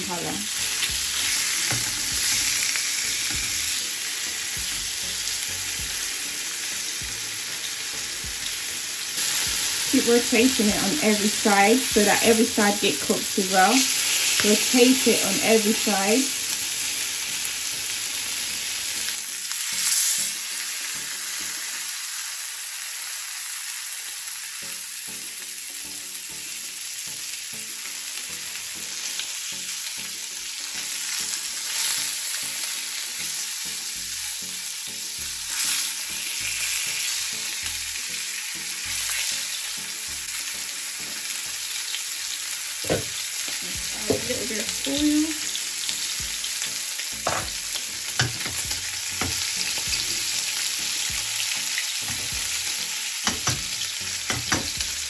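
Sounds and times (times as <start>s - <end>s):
fish sizzling in frying pan: 0.0s - 55.0s.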